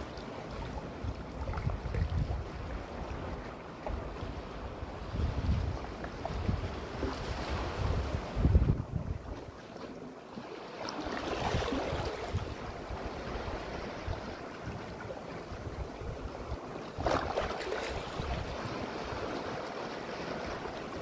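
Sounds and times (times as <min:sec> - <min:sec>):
sea waves washing among rocks: 0:00.0 - 0:21.0.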